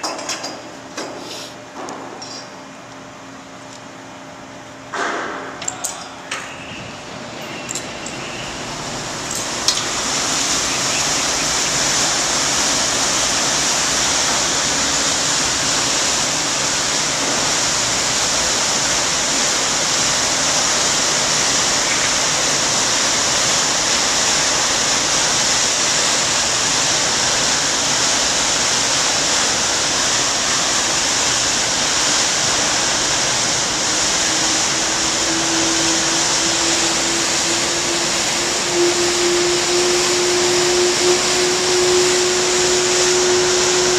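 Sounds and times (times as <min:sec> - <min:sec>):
propeller churning water: 0:02.7 - 0:43.9.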